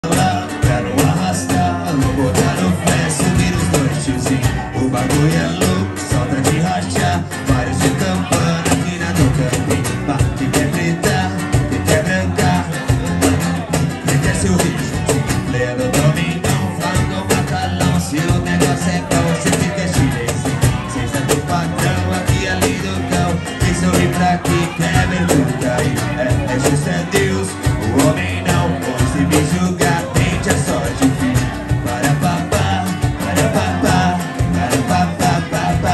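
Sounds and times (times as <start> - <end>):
cajon beating rhythm: 0.0 - 35.9
electric bass line: 0.0 - 35.9
person singing: 0.0 - 35.9
strummed acoustic guitar: 0.0 - 35.9.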